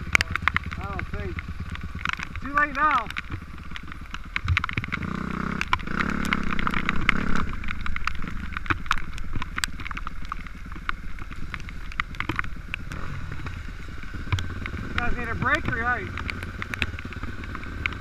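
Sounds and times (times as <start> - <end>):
dirt bike engine running: 0.0 - 18.0
sharp clicks and knocks: 0.0 - 18.0.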